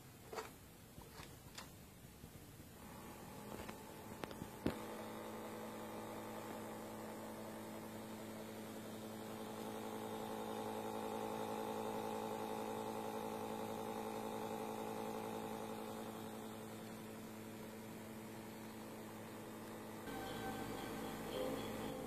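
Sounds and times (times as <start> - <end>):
small motor humming and whining: 2.8 - 22.0.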